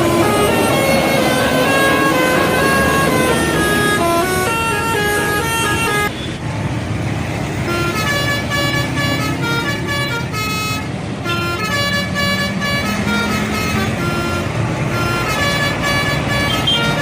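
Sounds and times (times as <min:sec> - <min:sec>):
multi-note bus air horn: 0:00.0 - 0:06.3, 0:07.7 - 0:17.0
engine rumble: 0:00.0 - 0:17.0.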